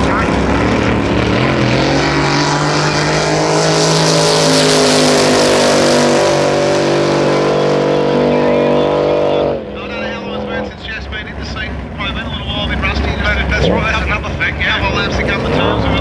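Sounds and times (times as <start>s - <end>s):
boat engine running at high revs: 0.0s - 16.0s.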